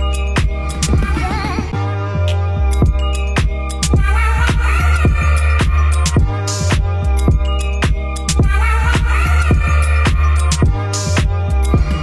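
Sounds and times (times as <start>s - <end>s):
music with deep bass and drum beat: 0.0s - 12.0s.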